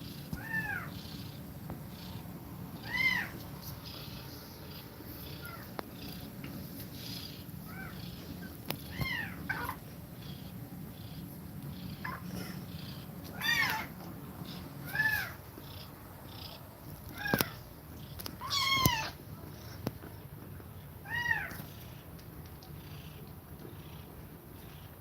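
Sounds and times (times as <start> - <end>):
kittens mewing: 0.0 - 19.8, 20.8 - 25.0
low purr: 3.8 - 25.0.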